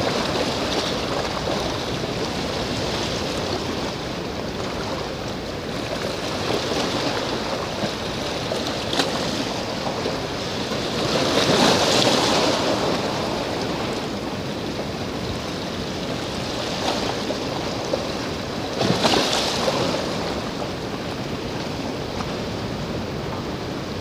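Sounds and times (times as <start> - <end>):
sea waves washing ashore: 0.0 - 24.0
waves breaking: 0.0 - 24.0.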